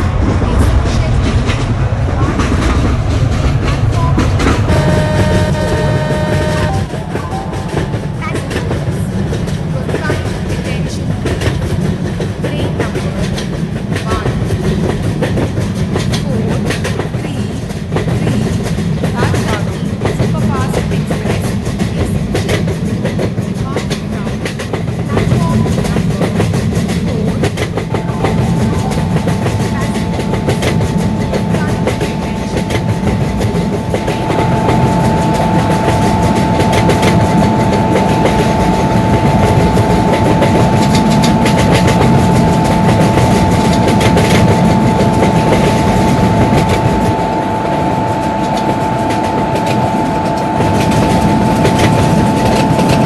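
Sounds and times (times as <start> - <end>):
steady high whine: 0.0 - 53.0
train rumbling on track: 0.0 - 53.0.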